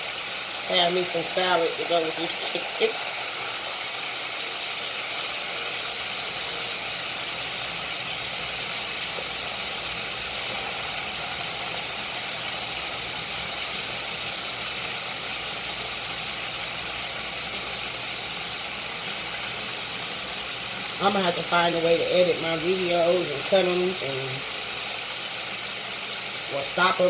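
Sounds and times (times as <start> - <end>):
chicken frying in hot oil: 0.0 - 27.0.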